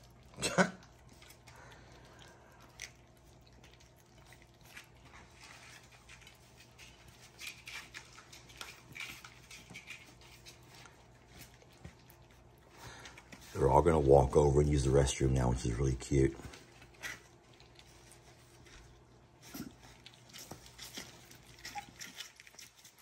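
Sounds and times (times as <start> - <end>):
puppies lapping and chewing food: 0.0 - 23.0.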